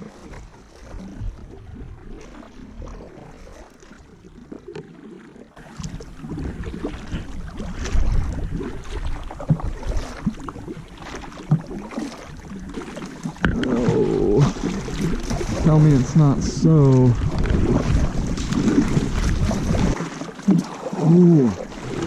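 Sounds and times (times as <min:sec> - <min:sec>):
paddle splashes and knocks: 0:00.0 - 0:22.0.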